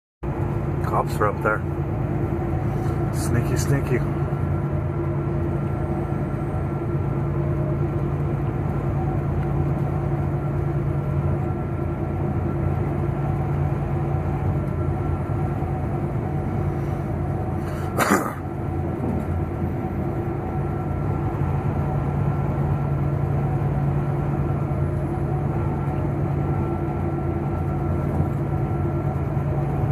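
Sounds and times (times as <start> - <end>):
road noise: 0.2 - 29.9
truck diesel engine droning: 0.2 - 29.9.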